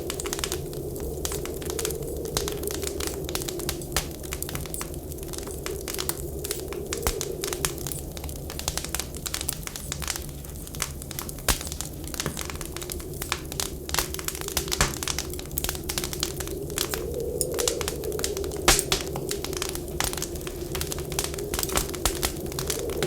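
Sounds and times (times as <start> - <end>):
wind whistling: 0.0 - 23.0
wood fire crackling and popping: 0.0 - 23.0.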